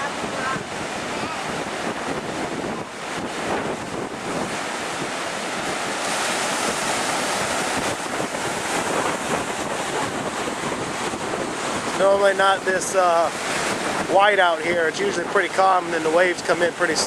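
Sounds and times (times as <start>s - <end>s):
surf breaking: 0.0s - 17.0s
wind buffeting microphone: 0.0s - 17.0s.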